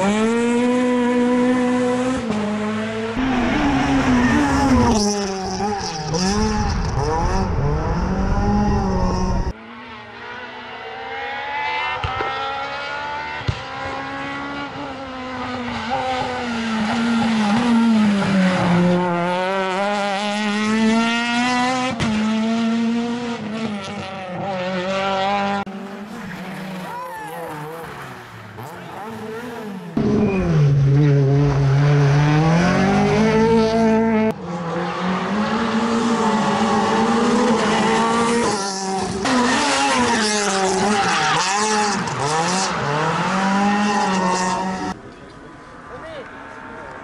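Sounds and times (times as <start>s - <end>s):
rally car engine revving through gears: 0.0s - 45.0s.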